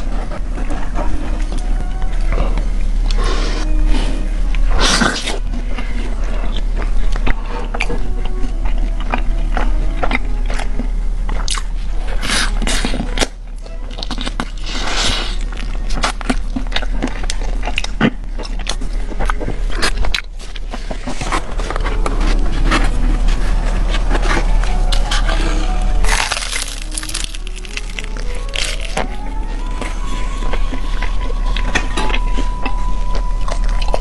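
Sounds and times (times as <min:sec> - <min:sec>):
crunchy chewing of fried chicken: 0:04.5 - 0:34.0.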